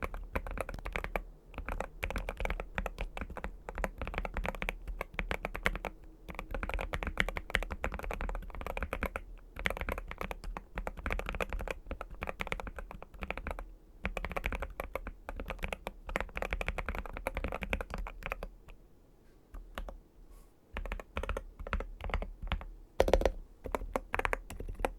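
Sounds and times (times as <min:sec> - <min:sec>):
mechanical keyboard typing: 0:00.0 - 0:18.5, 0:19.6 - 0:20.0, 0:20.8 - 0:24.9.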